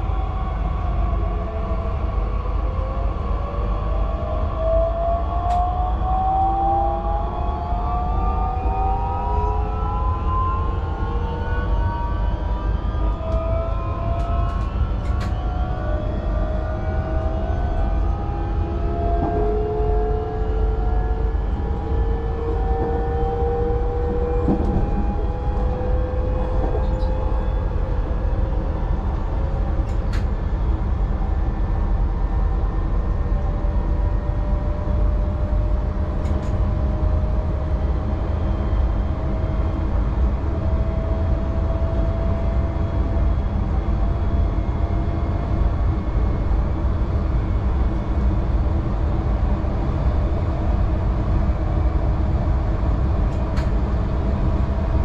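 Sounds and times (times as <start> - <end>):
train wheels rumbling on track: 10.6 - 55.0.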